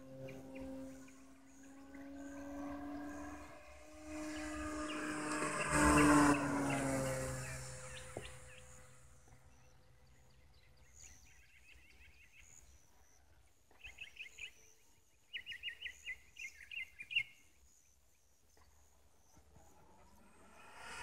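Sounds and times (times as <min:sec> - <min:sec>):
distant model plane engine drone: 0:00.0 - 0:14.6, 0:18.6 - 0:21.0
small bird chirping: 0:00.1 - 0:17.5.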